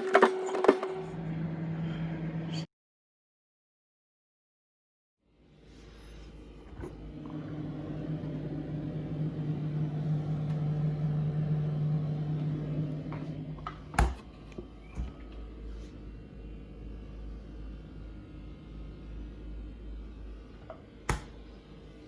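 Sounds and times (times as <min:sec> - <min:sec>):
refrigerator humming: 0:00.0 - 0:02.6, 0:05.8 - 0:22.0.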